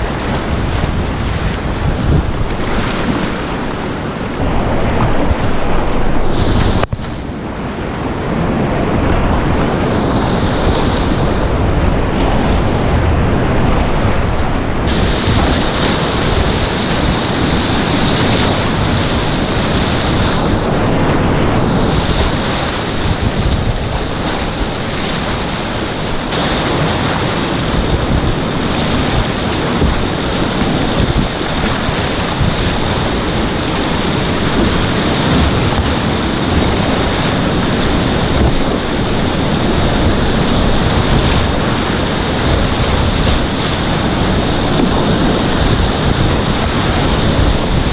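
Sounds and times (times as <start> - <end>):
river rapids rushing: 0.0 - 47.9.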